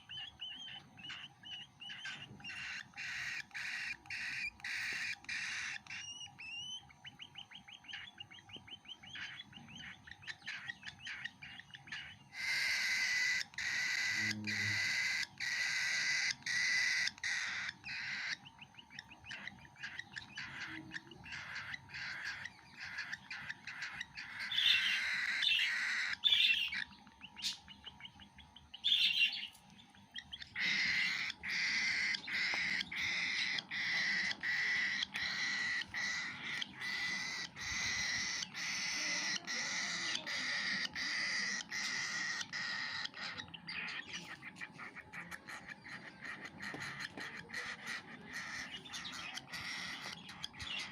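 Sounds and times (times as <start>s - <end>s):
cockatiel chick rasping begging calls: 0.0s - 50.9s.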